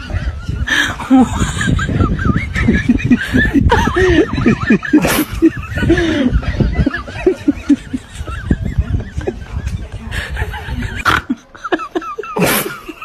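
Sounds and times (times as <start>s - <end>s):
people laughing and snickering: 0.0s - 13.0s.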